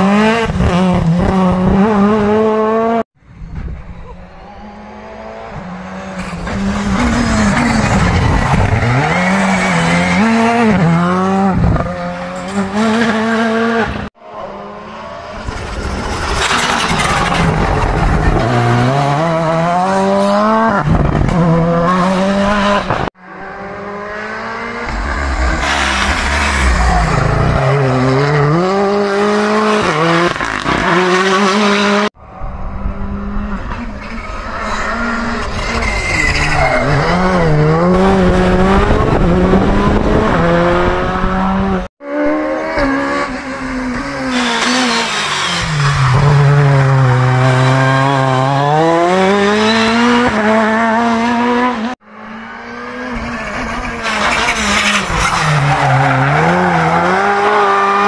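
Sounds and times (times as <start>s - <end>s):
rally car engines revving: 0.0s - 3.0s, 3.8s - 58.0s.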